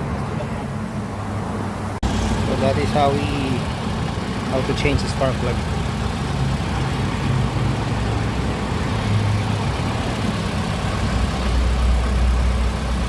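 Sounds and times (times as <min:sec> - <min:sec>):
car engine idling: 0:02.0 - 0:13.0.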